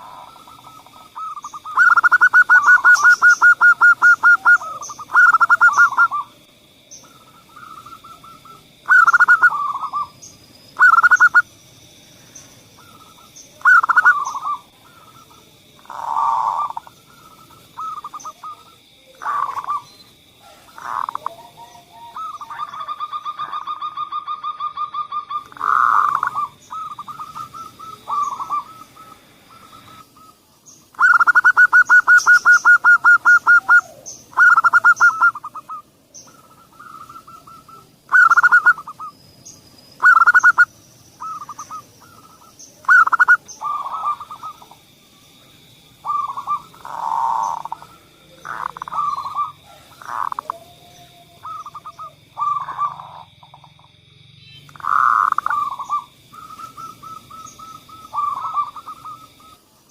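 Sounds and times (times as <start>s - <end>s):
doves cooing: 0.0s - 54.0s, 54.6s - 59.9s.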